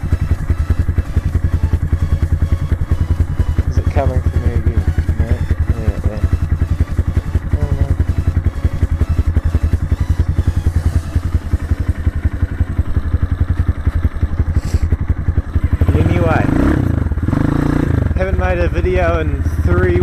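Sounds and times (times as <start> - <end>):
dirt bike engine at low revs: 0.0 - 20.0.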